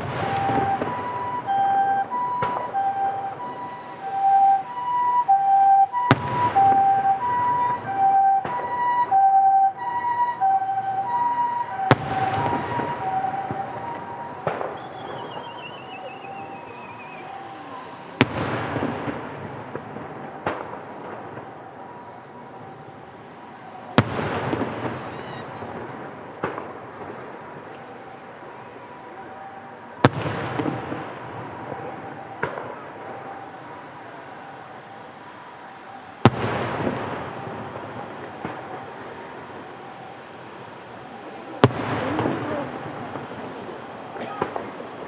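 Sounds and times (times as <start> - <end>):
two-tone siren: 0.0 - 26.1, 27.8 - 45.0
fireworks booming: 0.0 - 45.0.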